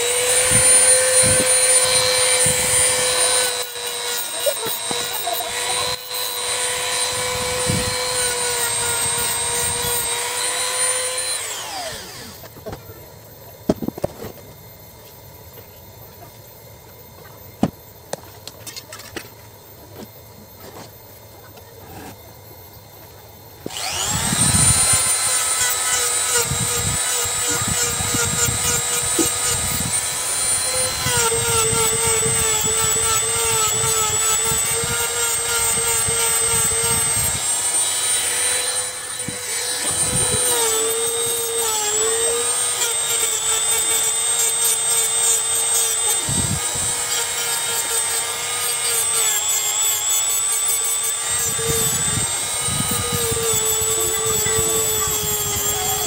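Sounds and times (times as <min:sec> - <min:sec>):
rotary grinder whining: 0:00.0 - 0:15.8, 0:18.5 - 0:56.0.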